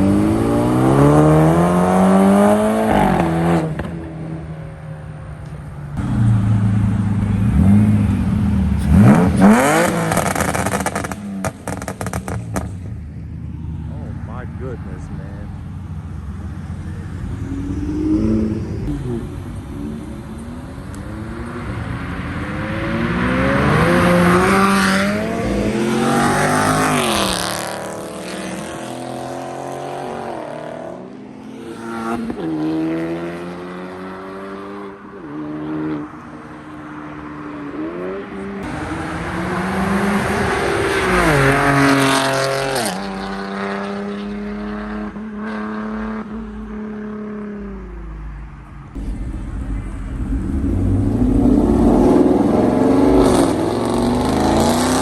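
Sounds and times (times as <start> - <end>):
cars accelerating hard: 0.0 - 4.5, 6.0 - 47.7, 48.9 - 55.0.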